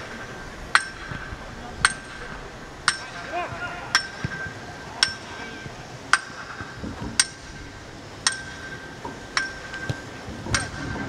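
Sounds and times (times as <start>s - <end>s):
sharp metallic knocks: 0.0s - 11.0s.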